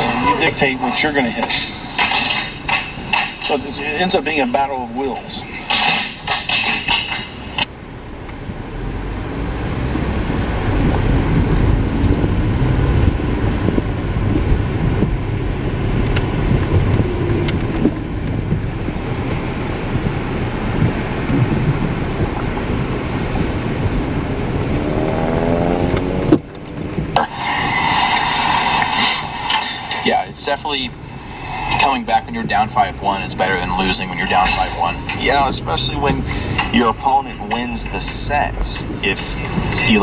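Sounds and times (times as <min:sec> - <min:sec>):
car engine accelerating: 0:00.0 - 0:40.0
road noise: 0:00.0 - 0:40.0.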